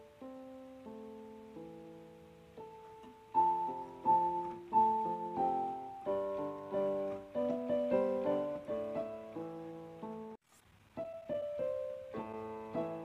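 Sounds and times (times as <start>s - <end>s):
slow piano melody: 0.0s - 10.4s, 11.0s - 13.0s.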